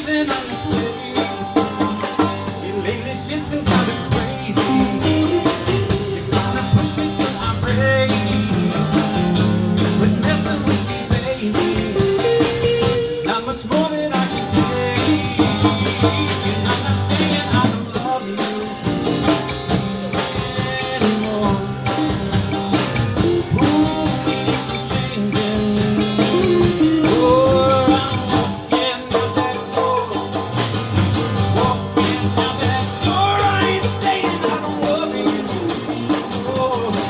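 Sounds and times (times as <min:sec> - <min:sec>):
blues band playing: 0:00.0 - 0:37.0
electric guitar: 0:00.0 - 0:37.0.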